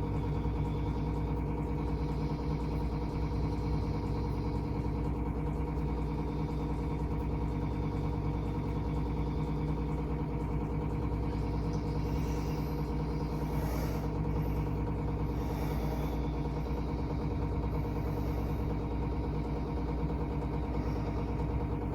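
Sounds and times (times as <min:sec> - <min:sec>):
low droning hum: 0:00.0 - 0:21.9.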